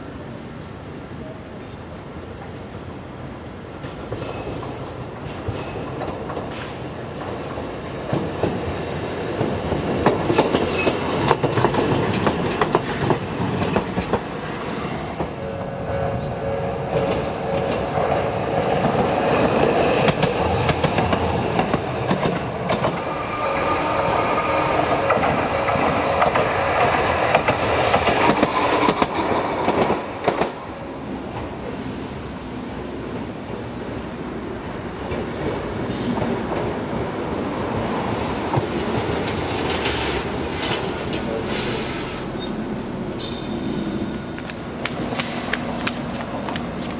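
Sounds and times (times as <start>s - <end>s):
streetcar whine: 0.0s - 46.9s
streetcar wheels clacking: 3.8s - 15.4s, 16.8s - 32.0s, 34.4s - 46.9s.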